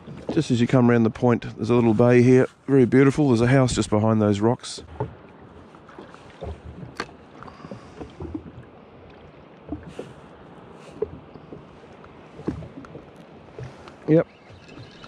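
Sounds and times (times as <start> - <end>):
small waves lapping against hull: 0.0 - 15.0.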